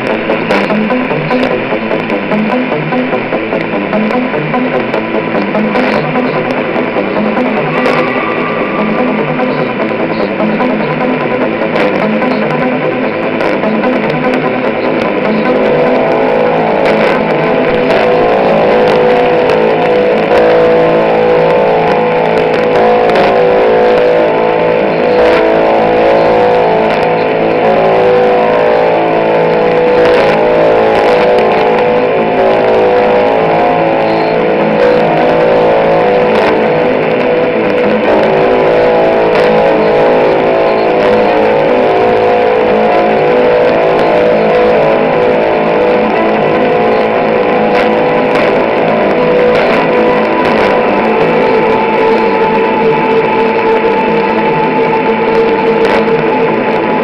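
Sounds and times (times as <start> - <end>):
music through radio speaker: 0.0 - 57.0
radio static hiss and crackles: 0.0 - 57.0.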